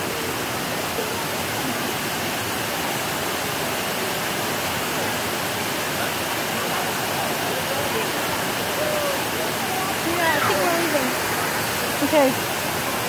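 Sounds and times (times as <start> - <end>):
water cascading over rocks: 0.0 - 13.0.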